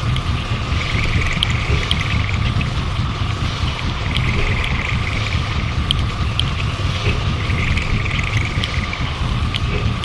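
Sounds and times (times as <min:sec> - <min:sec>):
flickering low rumble: 0:00.0 - 0:10.0
loud wash of noise music: 0:00.0 - 0:10.0.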